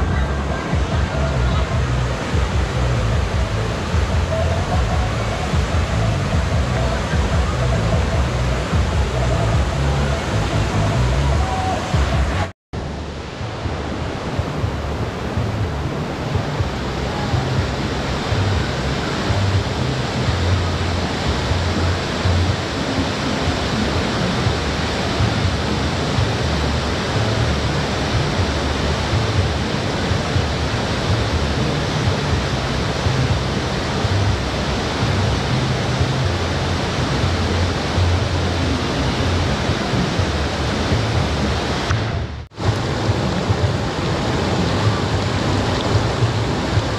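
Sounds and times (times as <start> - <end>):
rapids roaring over boulders: 0.0 - 46.9.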